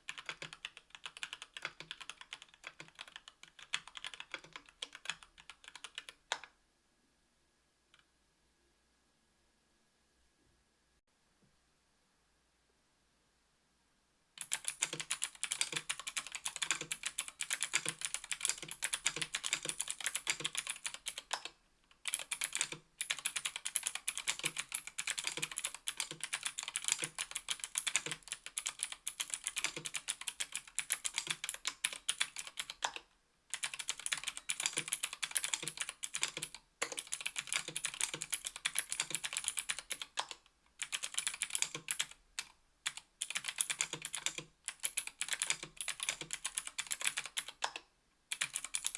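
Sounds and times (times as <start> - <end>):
fast clicky keyboard typing: 0.0 - 6.5, 14.4 - 48.9.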